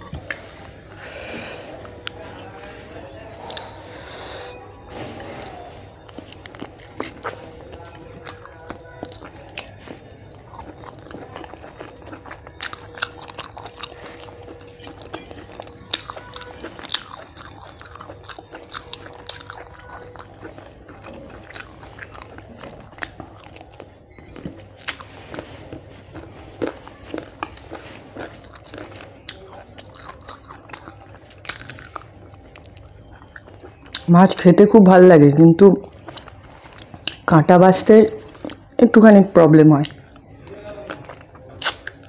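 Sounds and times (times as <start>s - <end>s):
person chewing food: 0.0s - 34.2s, 35.8s - 38.8s, 39.8s - 42.0s.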